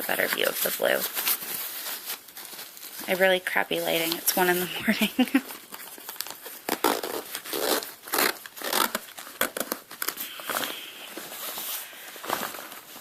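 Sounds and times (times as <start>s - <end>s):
fabric bag rustling and crinkling: 0.0s - 13.0s.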